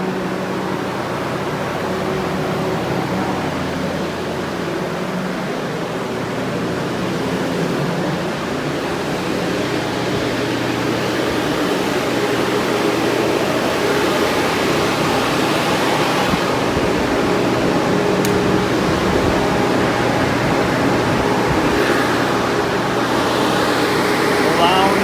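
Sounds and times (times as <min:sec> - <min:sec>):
fans and dehumidifier rushing air: 0:00.0 - 0:25.0.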